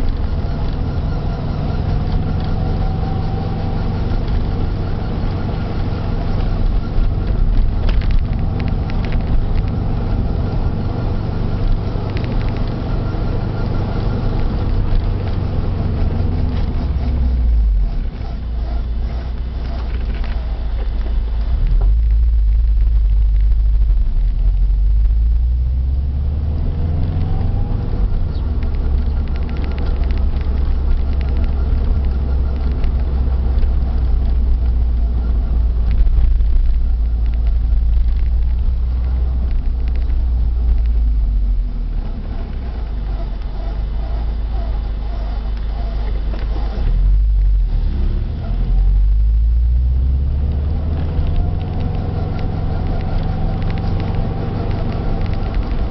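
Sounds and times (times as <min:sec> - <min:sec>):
faint wheel bearing noise: 0:00.0 - 0:26.1, 0:26.8 - 0:55.9
car engine and road rumble: 0:00.0 - 0:55.9.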